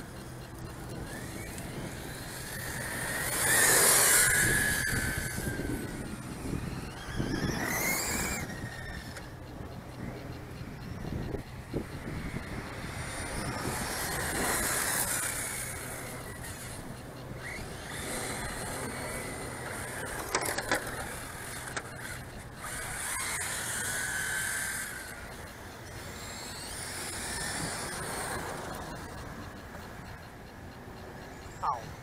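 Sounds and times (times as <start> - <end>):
toy car motors whining: 0.0 - 32.0.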